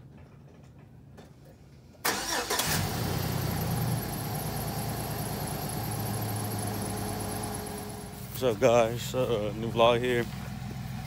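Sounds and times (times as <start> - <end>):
pickup truck engine starting: 2.0 - 11.0.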